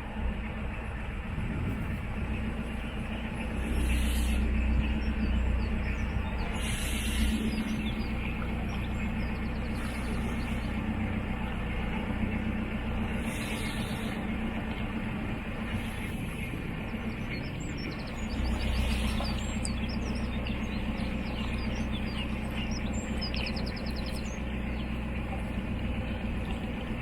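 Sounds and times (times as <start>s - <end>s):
boat diesel engine running: 0.0s - 27.0s.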